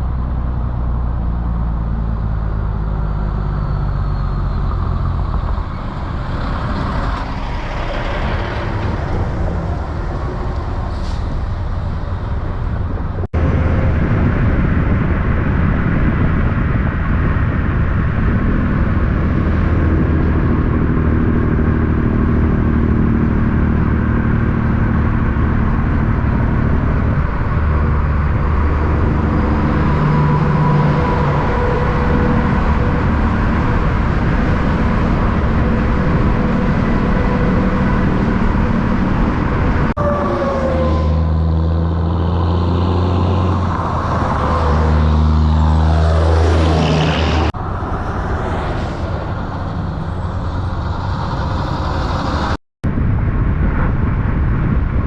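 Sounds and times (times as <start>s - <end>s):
traffic with heavy trucks: 0.0s - 55.0s.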